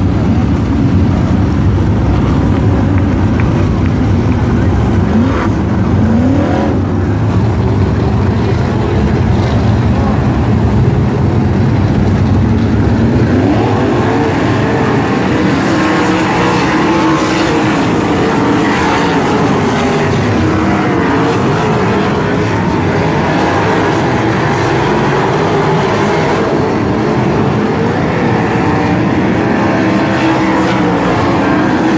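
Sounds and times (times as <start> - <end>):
race car engines at speed: 0.0 - 31.9.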